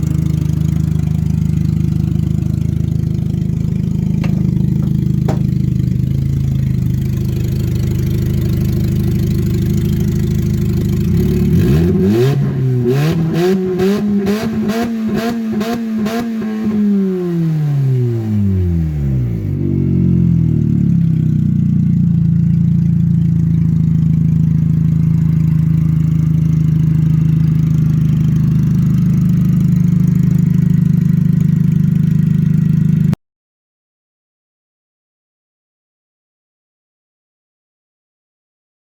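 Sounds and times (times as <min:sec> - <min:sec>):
car engine idling and revving: 0:00.0 - 0:33.2.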